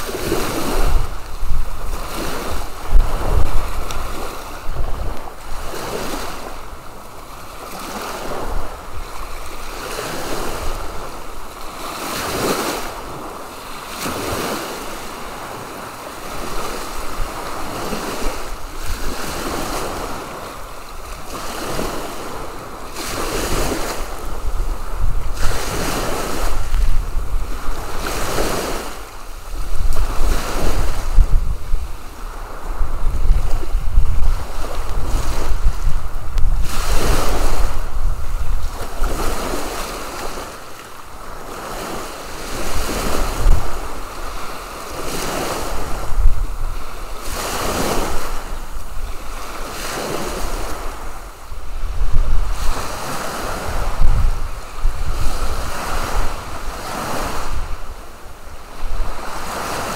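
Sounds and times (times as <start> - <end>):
small waves washing on sand: 0.0 - 59.9
wind buffeting microphone: 0.0 - 59.9.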